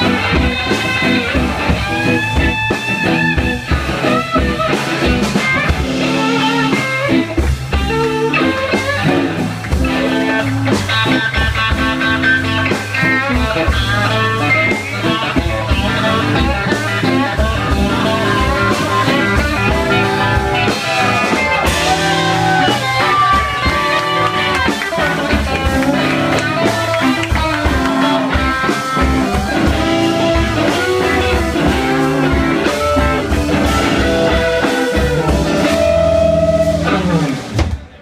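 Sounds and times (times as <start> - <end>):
blues-rock band playing: 0.0 - 38.0
electric lead guitar bending notes: 0.0 - 38.0.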